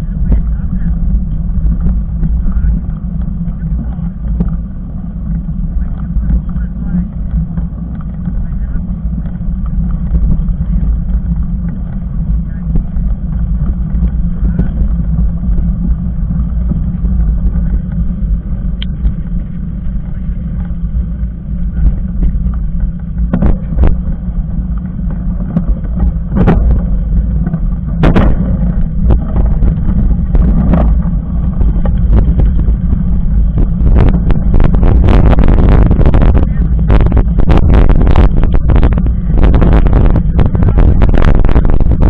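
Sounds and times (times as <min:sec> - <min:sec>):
bike knocks and rattles: 0:00.0 - 0:42.0
bike tyres rumbling on trail: 0:00.0 - 0:42.0.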